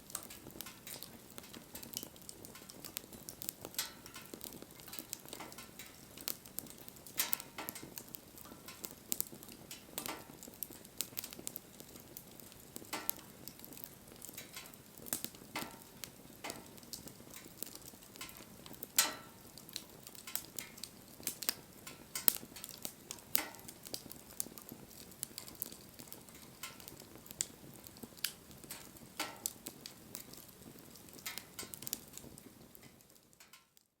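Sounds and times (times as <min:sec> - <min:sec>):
fire hissing and sizzling: 0:00.0 - 0:33.9
burning wood cracking and popping: 0:00.0 - 0:34.0.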